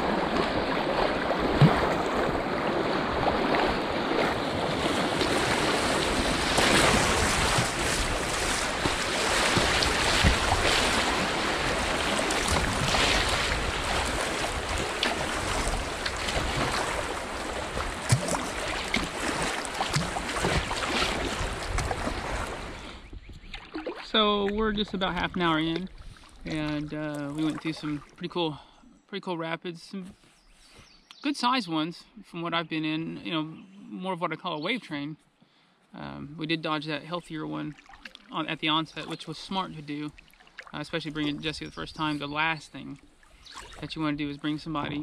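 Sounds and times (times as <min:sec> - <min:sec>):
paddle splashes: 0:00.0 - 0:28.3, 0:37.0 - 0:45.0.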